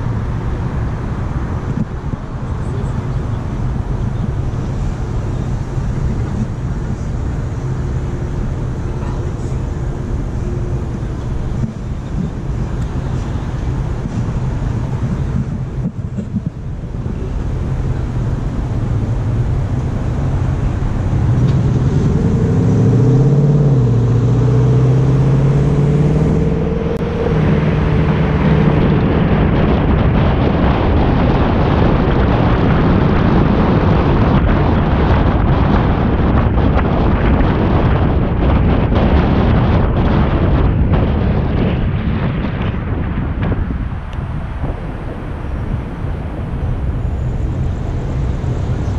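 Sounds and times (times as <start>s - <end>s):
car engine humming: 0.0s - 48.9s
road noise: 0.0s - 48.9s
wind buffeting microphone: 0.0s - 48.9s.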